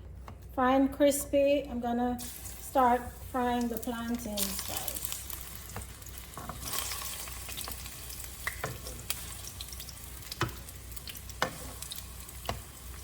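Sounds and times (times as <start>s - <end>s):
plantain frying in hot fat: 2.2s - 13.0s.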